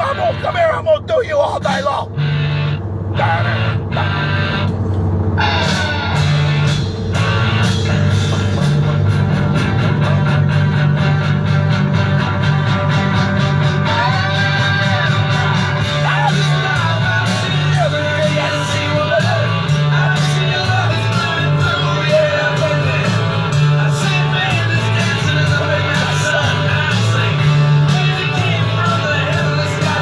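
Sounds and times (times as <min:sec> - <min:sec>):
rock song with vocals: 0:05.3 - 0:30.0.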